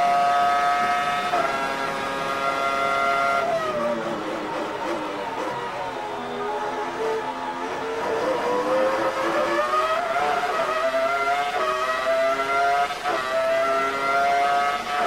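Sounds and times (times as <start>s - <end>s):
racing car engine accelerating: 0.0s - 15.0s
gear upshifts: 0.2s - 15.0s.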